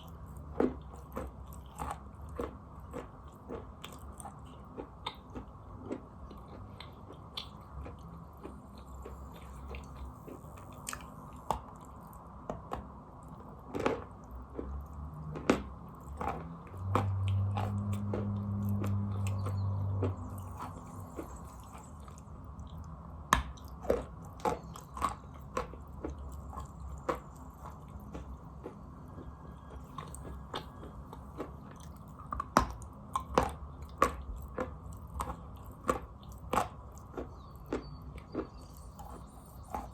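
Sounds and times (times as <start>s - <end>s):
chewing chalk crunching: 0.0s - 39.9s
low steady hum: 0.0s - 39.9s.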